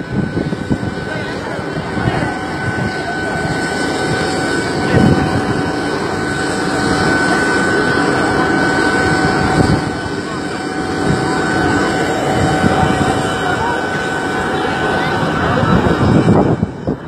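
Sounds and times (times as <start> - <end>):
jet turbine whine and rumble: 0.0 - 17.0.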